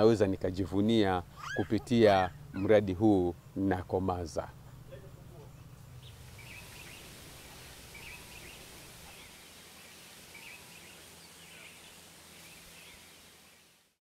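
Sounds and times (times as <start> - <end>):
birds chirping: 0.0 - 13.8.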